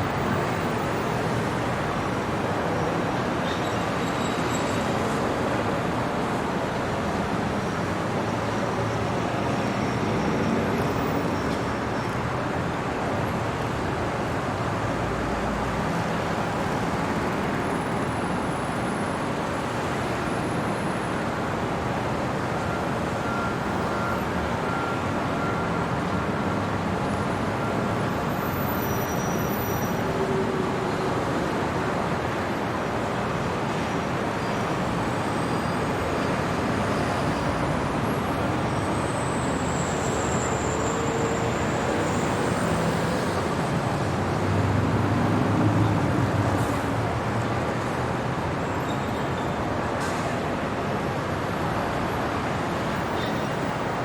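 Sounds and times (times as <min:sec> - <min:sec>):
city traffic noise: 0:00.0 - 0:54.0.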